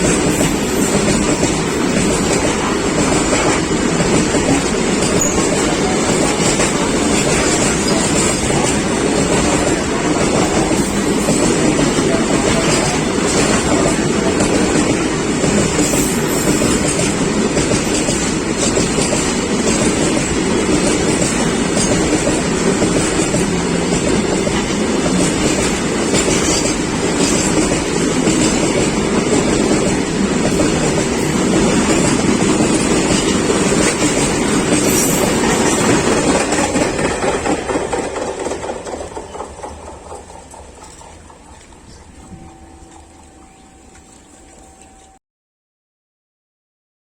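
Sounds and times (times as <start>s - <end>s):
freight train wheels clattering: 0.0s - 44.1s.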